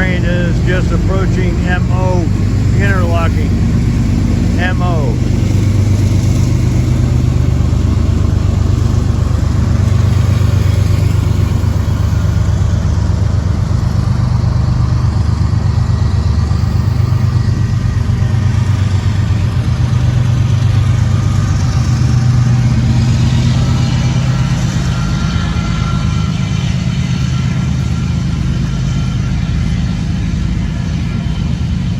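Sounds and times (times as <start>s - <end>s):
diesel locomotive engine drone: 0.0s - 31.9s
train wheel and rail noise: 0.0s - 31.9s.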